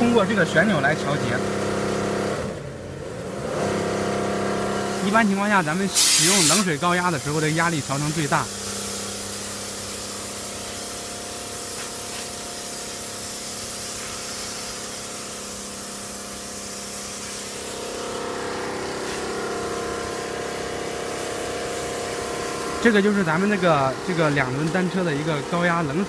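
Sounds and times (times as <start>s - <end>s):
pump humming: 4.0s - 26.0s
pressure washer spray hissing: 4.8s - 26.0s.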